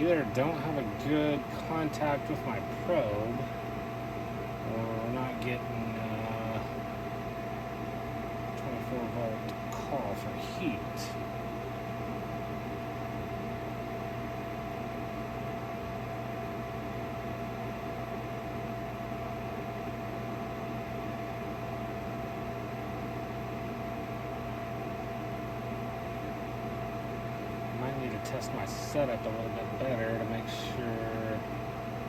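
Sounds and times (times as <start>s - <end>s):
machine hum: 0.0s - 32.0s.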